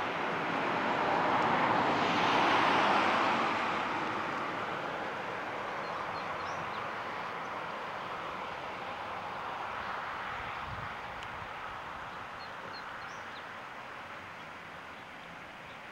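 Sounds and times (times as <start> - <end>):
background road rush: 0.0 - 15.9
car passing on highway: 0.0 - 15.9.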